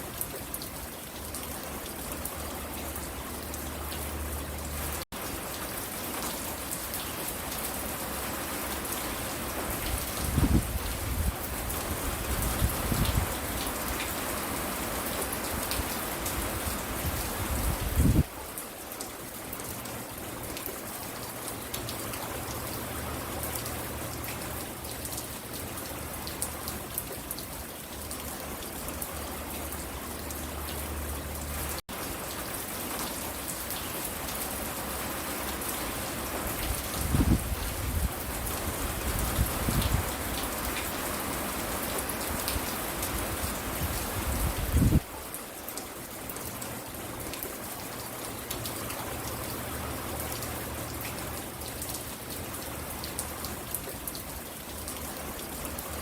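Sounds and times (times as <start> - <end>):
rain falling on a porch: 0.0 - 56.0.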